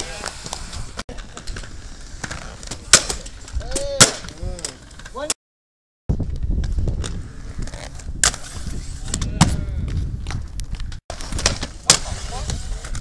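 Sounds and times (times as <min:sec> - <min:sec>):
skate wheels rolling on concrete: 0:00.0 - 0:05.4, 0:06.1 - 0:13.0.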